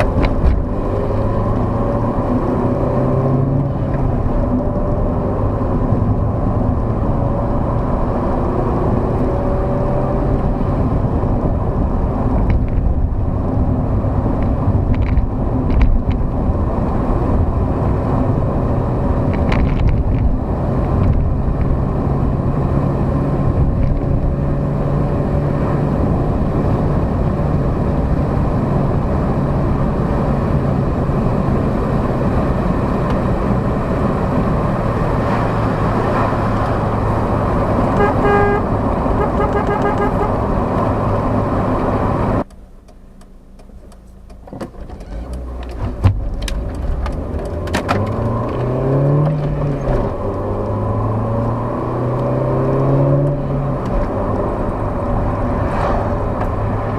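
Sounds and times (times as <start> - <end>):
car engine humming and revving: 0.0 - 56.9.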